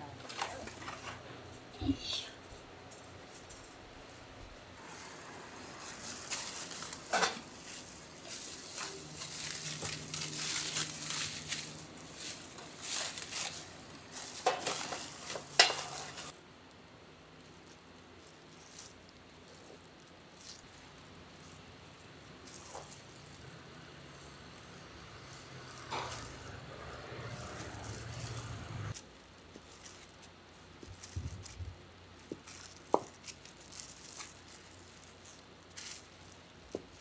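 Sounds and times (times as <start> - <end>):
cling film and cloth crinkling: 0.1 - 37.0.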